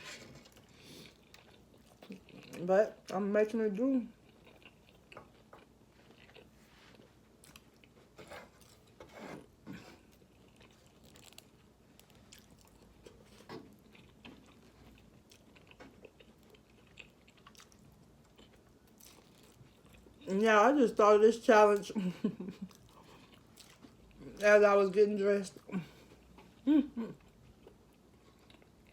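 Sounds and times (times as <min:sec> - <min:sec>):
person chewing food: 0:00.1 - 0:03.1, 0:04.1 - 0:20.3, 0:22.2 - 0:24.4, 0:25.6 - 0:28.9.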